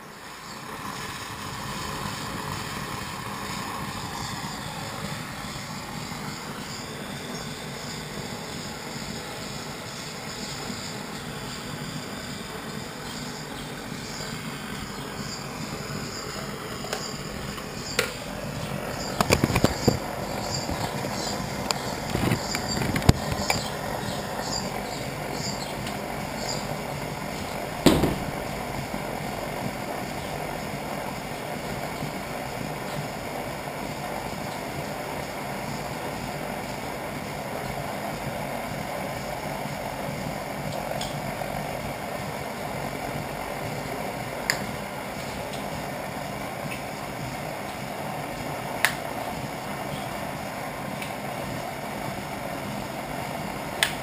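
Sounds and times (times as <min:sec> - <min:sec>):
camp stove burner rushing: 0:00.0 - 0:54.0.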